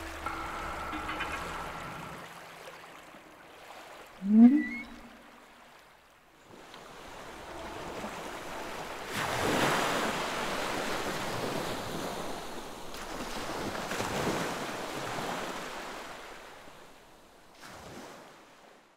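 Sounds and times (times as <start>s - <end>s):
sea waves breaking: 0.0s - 18.6s.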